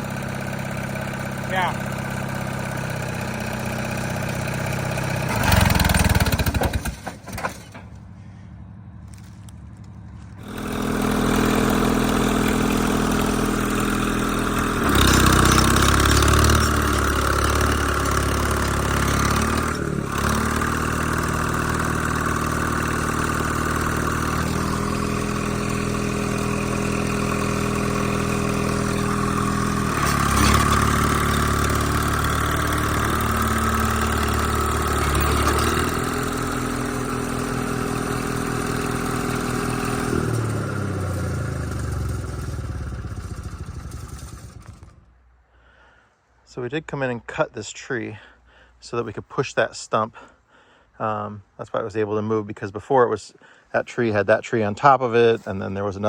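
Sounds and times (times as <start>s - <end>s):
bulldozer diesel engine: 0.0s - 46.0s.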